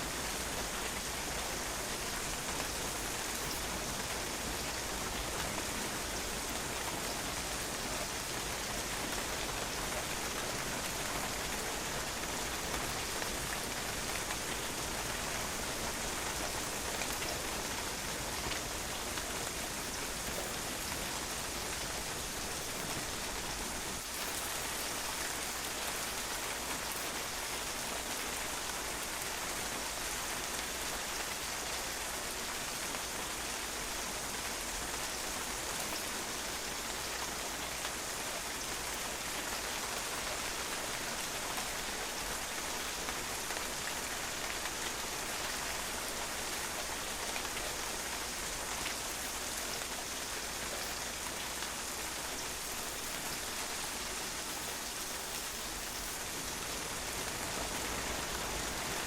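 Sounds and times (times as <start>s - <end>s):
rain pattering on hard surface: 0.0s - 59.0s.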